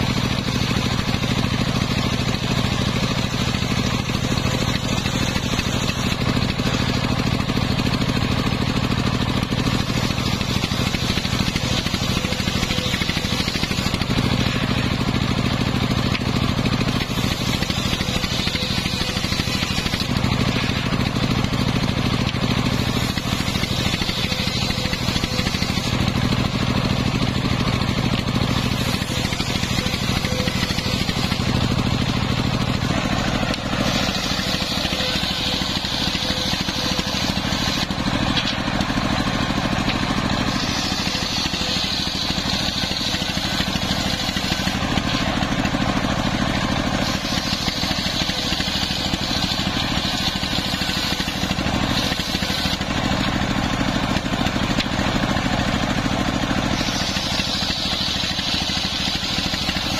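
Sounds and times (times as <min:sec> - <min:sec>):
circular saw ripping timber: 0:00.0 - 0:59.9
diesel engine running: 0:00.0 - 0:59.9.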